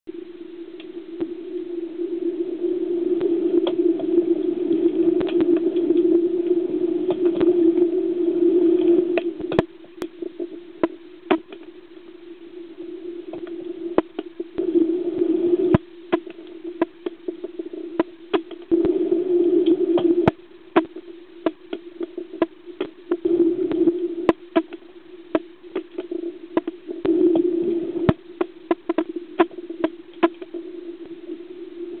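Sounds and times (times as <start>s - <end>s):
steady hum: 0.1s - 32.0s.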